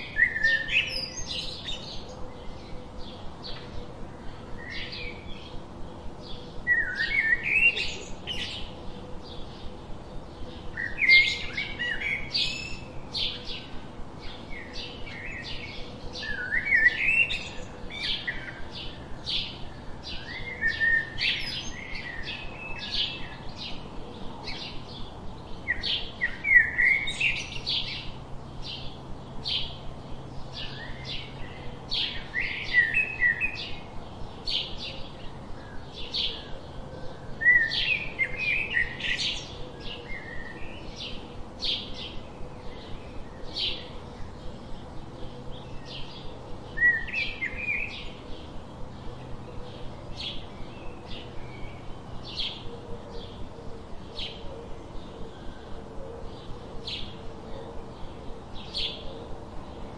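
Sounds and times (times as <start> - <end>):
bird warbling song: 0.0 - 59.9.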